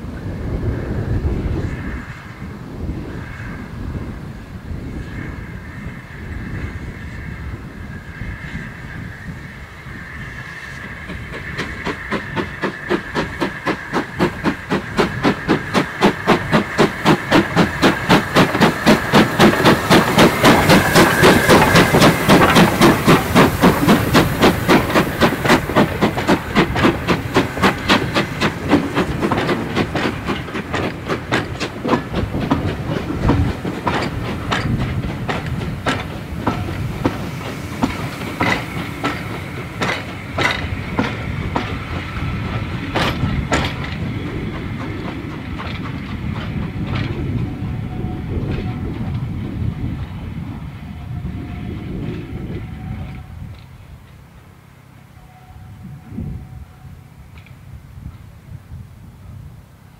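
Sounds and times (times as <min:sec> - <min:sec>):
wheels clickety-clack over rail joints: 0:00.0 - 0:55.5, 0:57.2 - 0:59.9
steam locomotive exhaust beats: 0:00.0 - 0:59.9.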